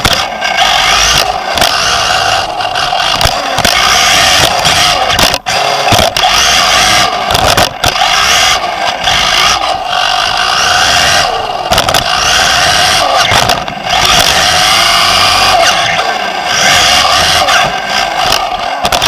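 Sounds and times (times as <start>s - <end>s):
sharp knocks from landings: 0.0s - 9.6s, 11.6s - 16.0s, 16.8s - 19.0s
electric motor whine: 0.0s - 19.0s.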